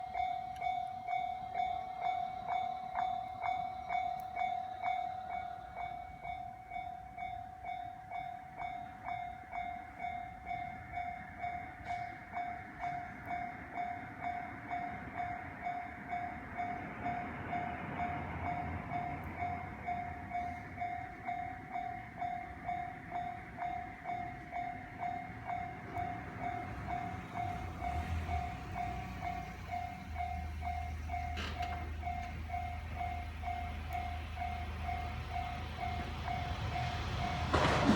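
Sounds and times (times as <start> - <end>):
level crossing warning bell: 0.0 - 37.9
train rumble: 0.0 - 37.9.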